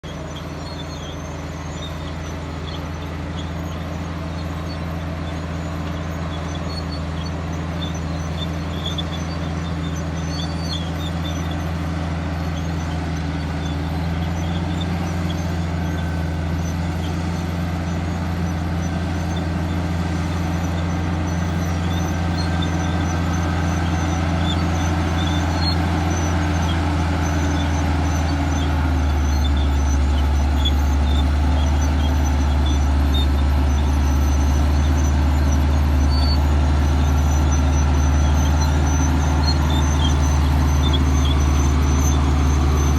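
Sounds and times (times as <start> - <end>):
bulldozer diesel engine droning: 0.0 - 42.9
faint high squeaks: 0.0 - 42.9.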